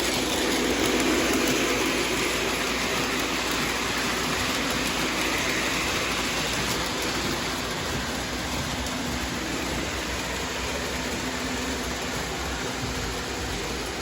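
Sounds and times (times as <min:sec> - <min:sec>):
freight train rumbling by: 0:00.0 - 0:14.0.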